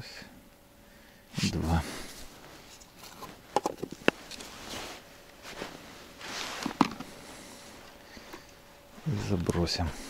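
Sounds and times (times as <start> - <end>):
rustling: 1.9 - 10.0.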